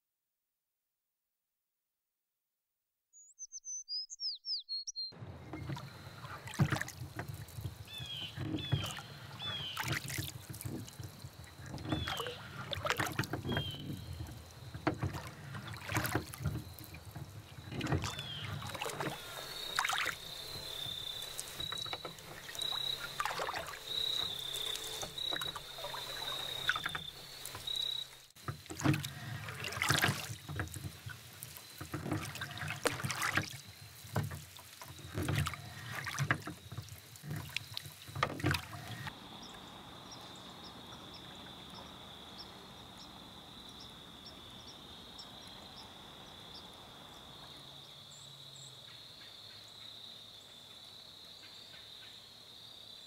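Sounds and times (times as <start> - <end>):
water splashing around paddled boat: 5.1 - 50.2
crickets chirring: 5.3 - 53.0.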